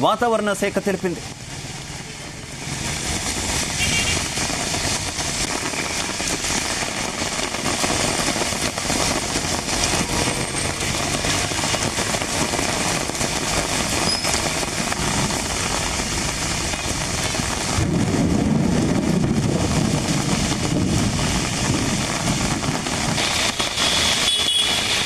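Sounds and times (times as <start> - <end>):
heavy rain on street: 0.0 - 25.0
traffic on flooded road: 0.0 - 25.0.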